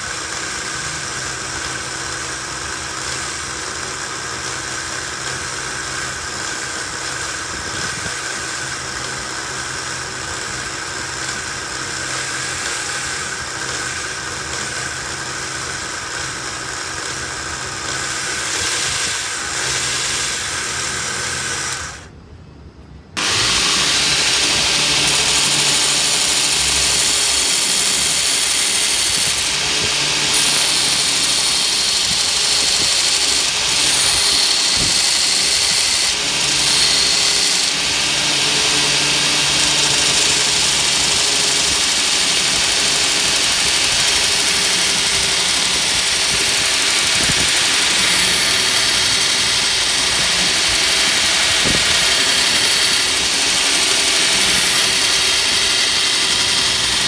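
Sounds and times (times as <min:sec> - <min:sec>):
belt grinder running: 0:00.0 - 0:22.1, 0:23.2 - 0:57.0.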